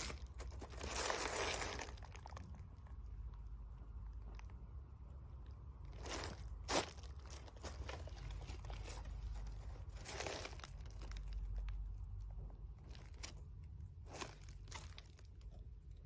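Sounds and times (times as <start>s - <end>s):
wire and plastic wrapping rustling: 0.0s - 3.0s, 5.8s - 16.0s
low steady rumble: 0.0s - 16.0s.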